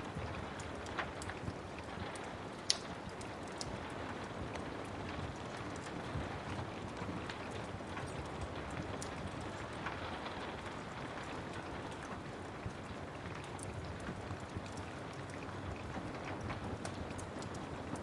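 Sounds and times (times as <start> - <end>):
steady rain falling: 0.0 - 18.0
wood fire crackling: 0.0 - 18.0.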